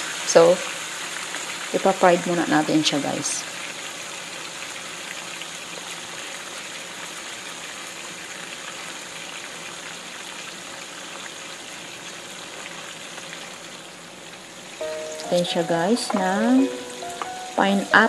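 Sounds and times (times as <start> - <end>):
fish frying in hot oil: 0.0 - 18.0.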